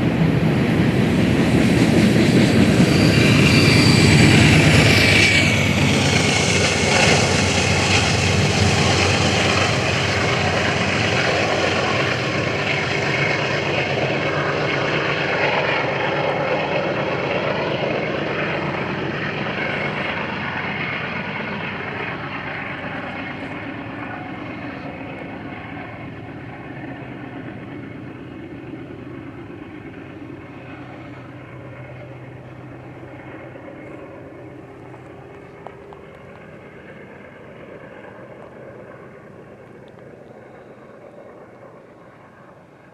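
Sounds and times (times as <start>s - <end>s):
freight train rumbling by: 0.0s - 42.9s.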